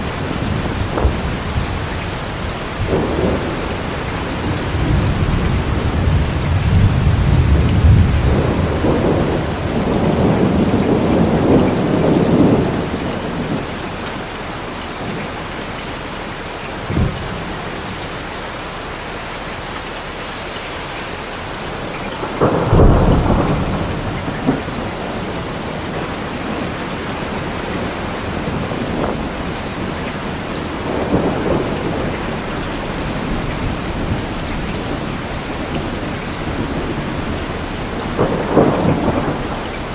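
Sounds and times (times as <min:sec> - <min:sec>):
thunder rumbling and cracking: 0:00.0 - 0:15.4, 0:16.6 - 0:18.3, 0:21.3 - 0:39.9
steady rain: 0:00.0 - 0:39.9.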